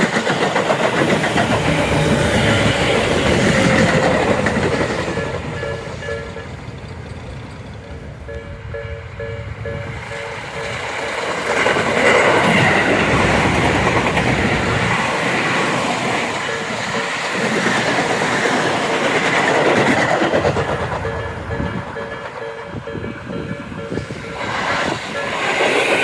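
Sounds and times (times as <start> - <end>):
train wheels clattering over rail joints: 0.0 - 8.4, 10.0 - 26.0.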